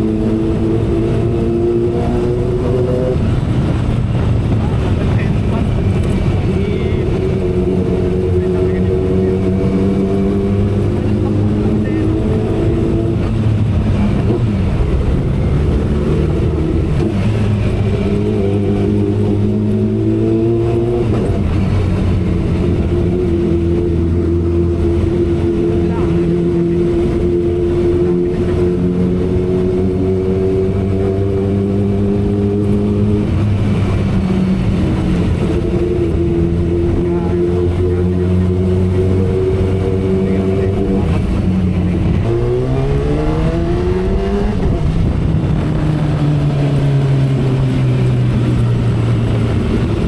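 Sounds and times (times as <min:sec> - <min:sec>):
motorcycle engine revving: 0:00.0 - 0:50.0
wind noise: 0:00.0 - 0:50.0.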